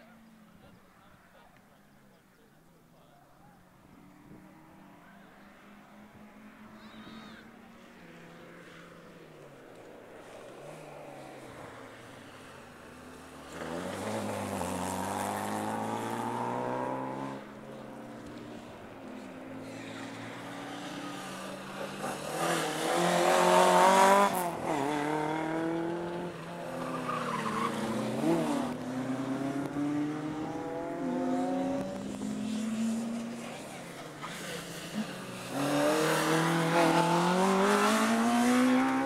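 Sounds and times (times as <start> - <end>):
rally car engines revving: 4.0 - 39.0.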